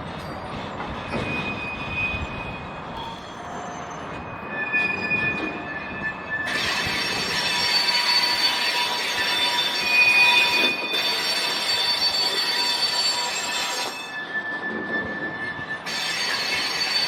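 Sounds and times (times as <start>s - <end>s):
steel wheels squealing: 0.1s - 17.0s.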